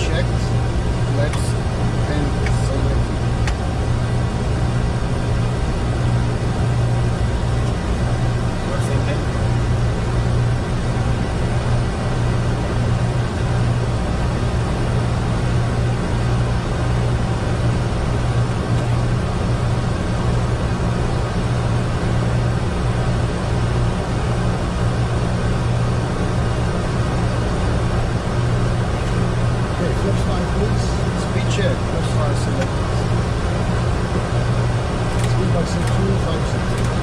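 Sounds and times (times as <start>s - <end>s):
airflow and jet engine noise: 0.0s - 37.0s
steady low hum: 0.0s - 37.0s.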